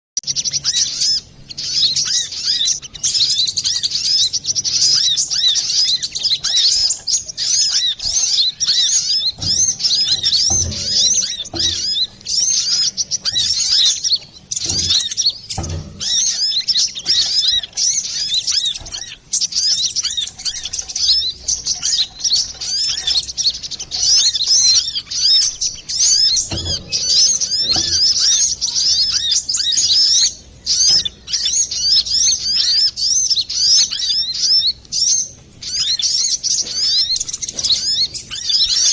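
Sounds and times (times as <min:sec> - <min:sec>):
sunbird chirping and twittering: 0:00.2 - 0:38.9.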